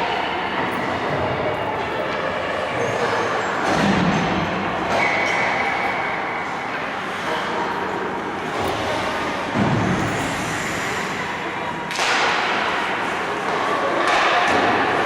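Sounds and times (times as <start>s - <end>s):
ice rink background noise: 0.0s - 15.0s.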